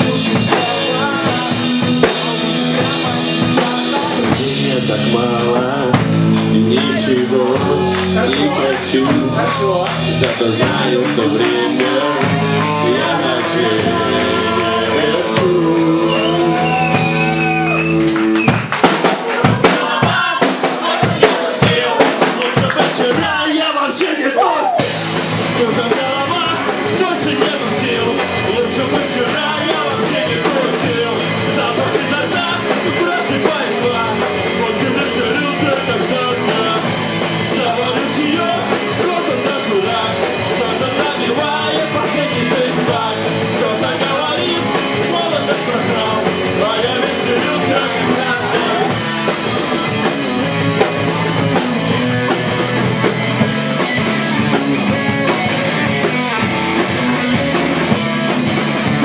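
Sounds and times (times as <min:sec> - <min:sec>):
person singing: 0:00.0 - 0:17.8, 0:19.2 - 0:51.6
electric guitar: 0:00.0 - 0:20.1, 0:24.7 - 0:59.0
bass guitar: 0:00.0 - 0:23.5, 0:24.4 - 0:59.0
drum kit: 0:00.0 - 0:23.7, 0:24.3 - 0:59.0.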